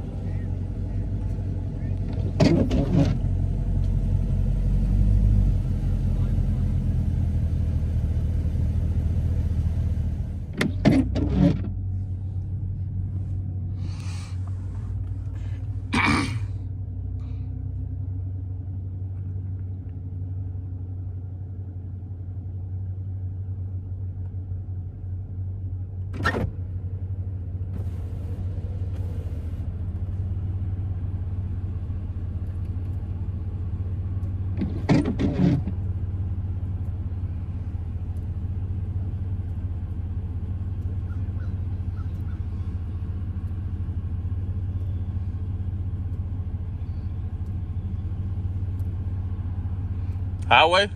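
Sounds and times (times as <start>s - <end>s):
car engine running: 0.0s - 50.9s.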